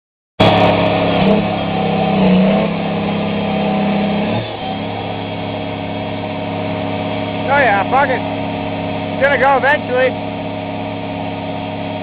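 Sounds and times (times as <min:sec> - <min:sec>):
tractor engine straining: 0:00.4 - 0:12.0.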